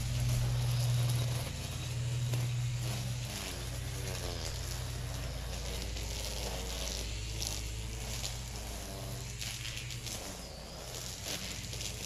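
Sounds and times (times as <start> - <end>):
light hiss: 0.0 - 12.0
string trimmer engine running: 0.0 - 12.0.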